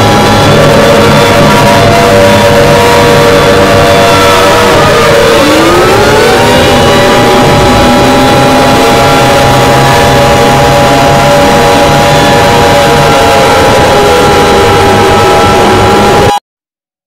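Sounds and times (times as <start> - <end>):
distorted alarm tones: 0.0 - 16.4
harsh dense noise: 0.0 - 16.4.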